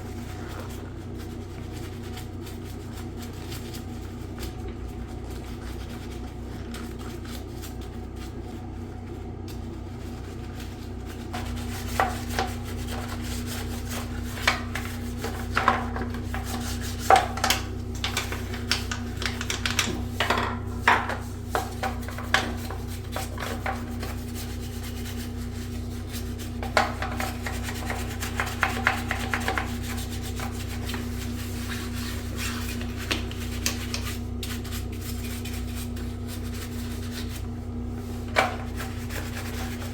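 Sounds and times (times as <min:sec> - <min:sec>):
hands scrubbing bidet parts: 0:00.0 - 0:39.9
steady low hum: 0:00.0 - 0:39.9.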